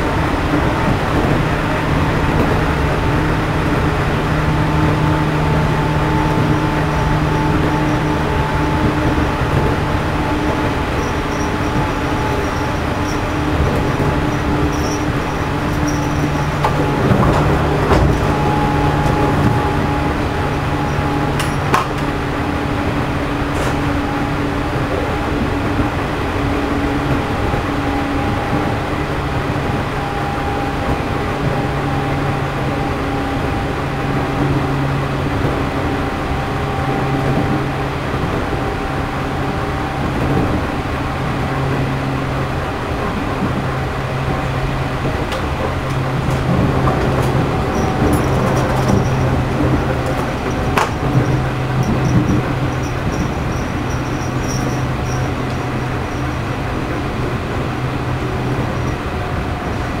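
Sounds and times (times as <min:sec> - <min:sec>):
train motor and gear hum: 0:00.0 - 1:00.0
train wheels rumbling: 0:00.0 - 1:00.0.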